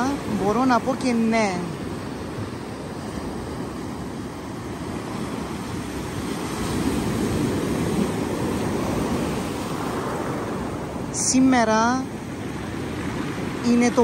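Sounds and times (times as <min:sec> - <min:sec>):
sea surf washing ashore: 0:00.0 - 0:14.0.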